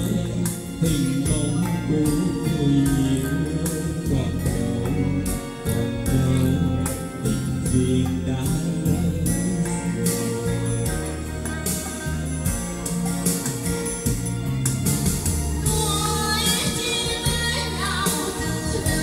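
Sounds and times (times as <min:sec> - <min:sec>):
instrumental pop music: 0:00.0 - 0:19.0.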